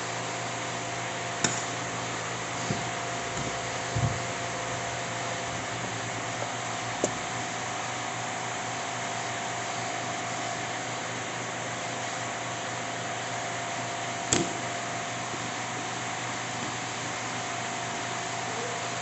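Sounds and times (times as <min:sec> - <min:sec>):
fan-like hum: 0:00.0 - 0:19.0.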